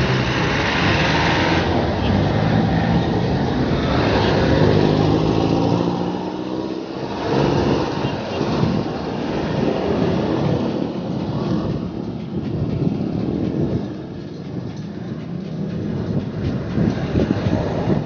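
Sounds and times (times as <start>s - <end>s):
road traffic noise: 0.0s - 18.0s
wind buffeting microphone: 0.0s - 18.0s.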